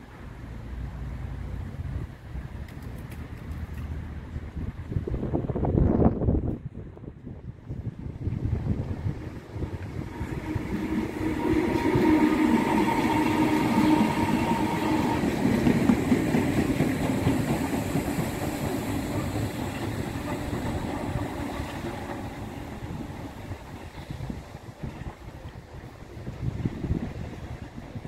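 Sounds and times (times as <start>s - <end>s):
electric train passing: 0.0s - 28.0s.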